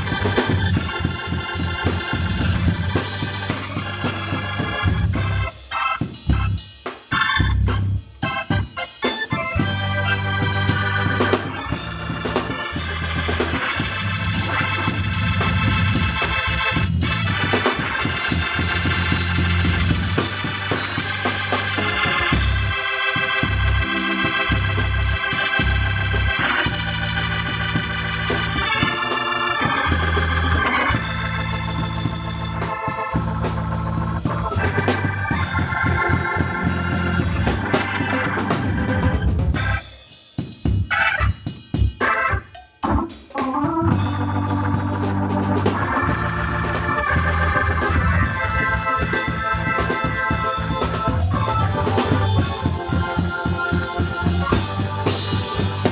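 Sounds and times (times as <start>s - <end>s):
drum kit: 0.0s - 55.9s
organ playing gospel chords: 0.0s - 55.9s.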